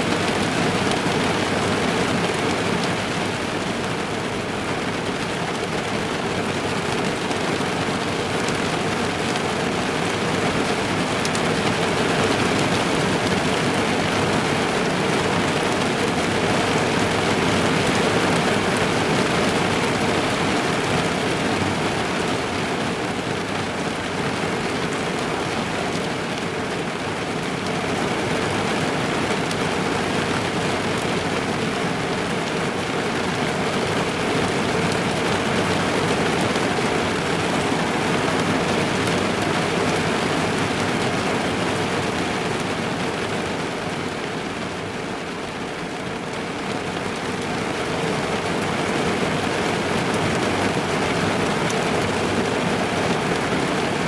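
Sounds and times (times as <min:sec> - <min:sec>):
rain drumming on car roof: 0:00.0 - 0:54.0.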